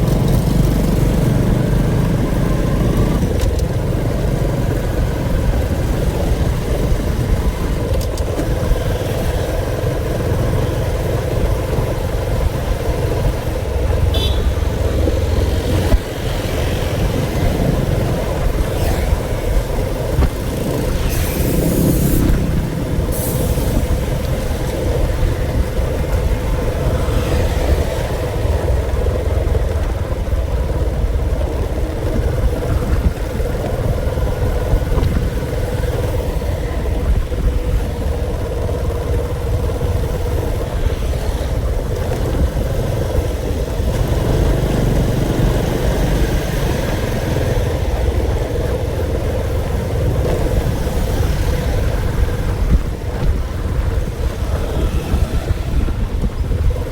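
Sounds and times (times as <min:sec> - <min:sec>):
motor vehicle engine rumbling: 0:00.0 - 0:56.9.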